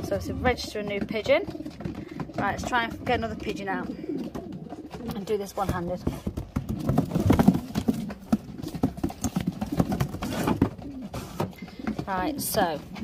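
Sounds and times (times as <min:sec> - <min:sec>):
knocks and rattles of basket: 0:00.0 - 0:13.0
pigeons cooing: 0:00.0 - 0:13.0.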